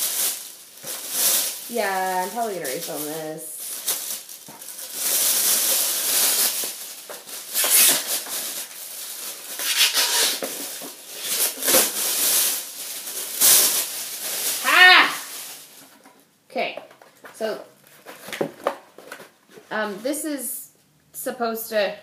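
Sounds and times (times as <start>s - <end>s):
packaging rustling: 0.0s - 14.6s, 15.2s - 16.2s, 16.9s - 19.6s.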